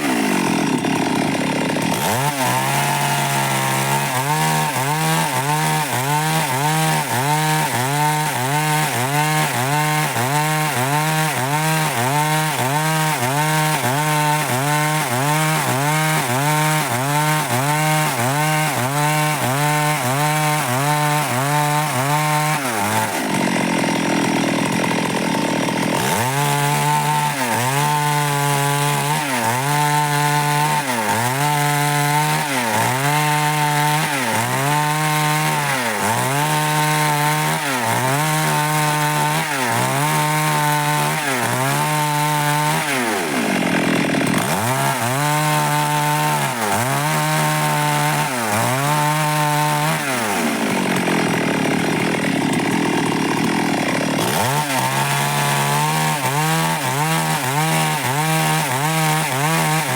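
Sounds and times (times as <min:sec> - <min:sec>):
chainsaw cutting dry wood: 0:00.0 - 0:59.9.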